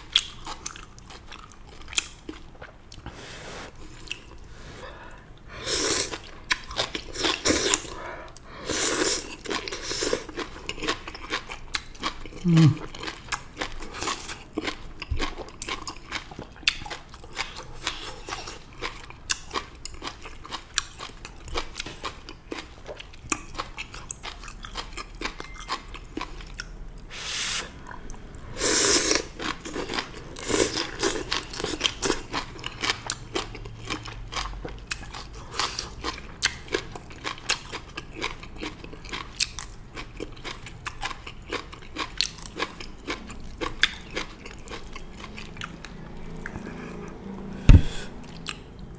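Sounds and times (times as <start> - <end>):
mouth chewing and crunching: 0.0 - 48.9.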